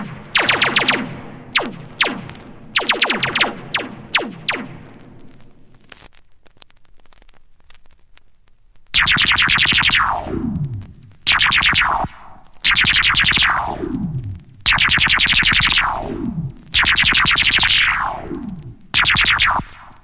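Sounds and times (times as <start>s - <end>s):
laser pistol zaps: 0.0s - 5.4s, 9.0s - 20.0s.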